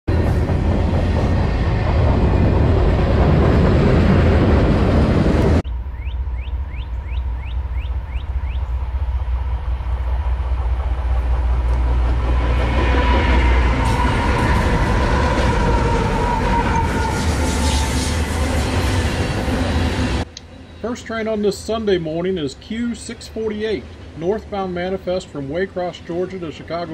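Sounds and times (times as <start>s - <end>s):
freight train rolling past: 0.1s - 26.9s.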